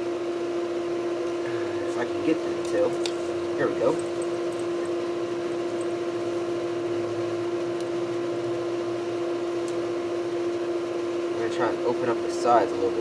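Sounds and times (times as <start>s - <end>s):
machine hum with held tone: 0.0s - 13.0s.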